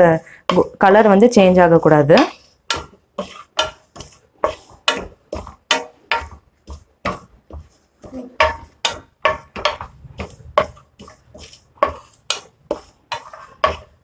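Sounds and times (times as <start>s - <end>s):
wooden spatula scraping a dry pan: 0.0s - 14.0s.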